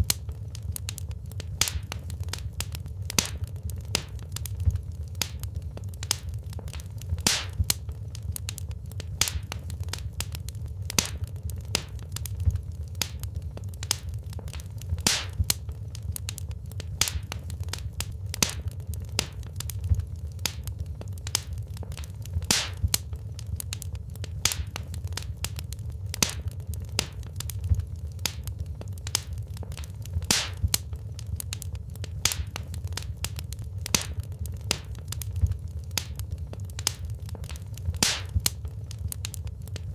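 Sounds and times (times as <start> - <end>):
fire rumbling: 0.0 - 39.9
logs crackling and popping: 0.0 - 39.9.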